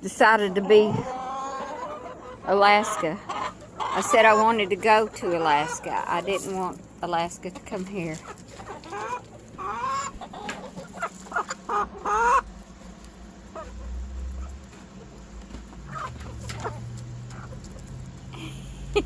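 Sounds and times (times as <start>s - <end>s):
hens clucking: 0.0s - 18.4s.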